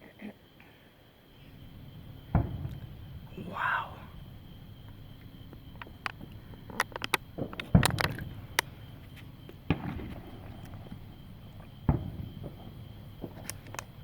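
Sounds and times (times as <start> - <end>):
fireworks booms: 1.3 - 14.0
fireworks cracking and popping: 1.3 - 14.0.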